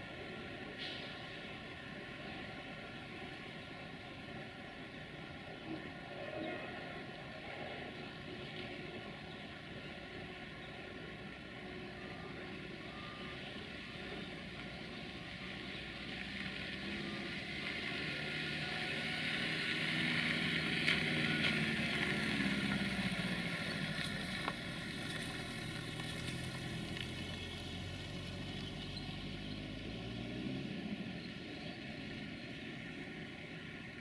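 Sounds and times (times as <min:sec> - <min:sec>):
vehicle engine rumbling: 0:00.0 - 0:34.0.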